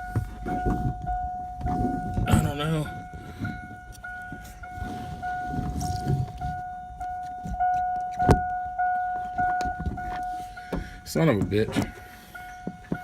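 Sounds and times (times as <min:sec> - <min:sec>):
rustling and clunks of handling: 0:00.0 - 0:08.6, 0:09.2 - 0:13.0
pulsing electronic warning tone: 0:00.0 - 0:13.0.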